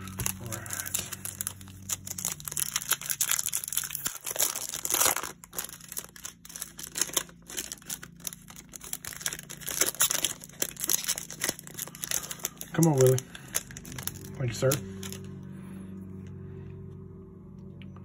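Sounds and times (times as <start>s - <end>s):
foil wrapper crinkling and tearing: 0.0s - 15.3s.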